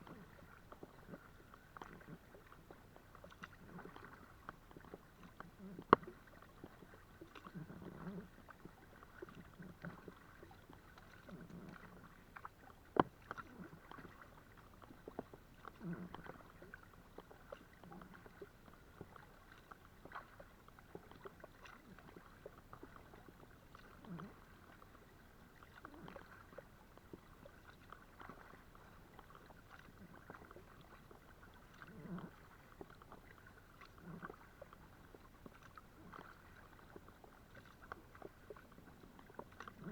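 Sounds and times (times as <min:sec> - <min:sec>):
paddle swishing in water: 0:00.0 - 0:39.9.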